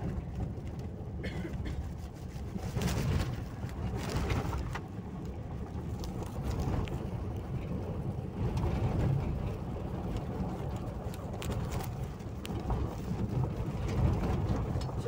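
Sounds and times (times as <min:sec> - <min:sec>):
car engine and tyre rumble: 0:00.0 - 0:15.0
small clicks and rattles: 0:01.8 - 0:15.0.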